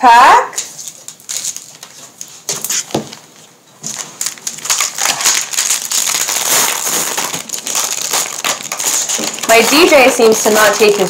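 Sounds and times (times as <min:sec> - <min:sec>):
cellophane wrapper crinkling: 0:00.6 - 0:11.0.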